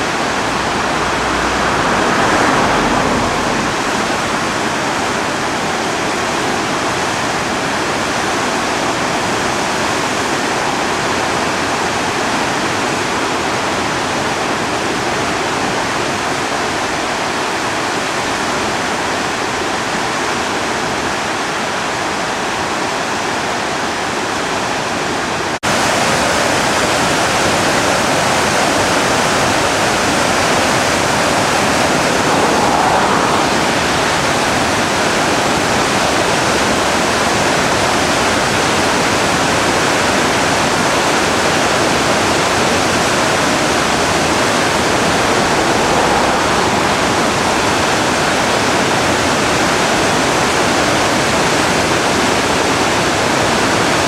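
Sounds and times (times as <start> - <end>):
river water rushing: 0.0 - 17.6, 24.4 - 54.0.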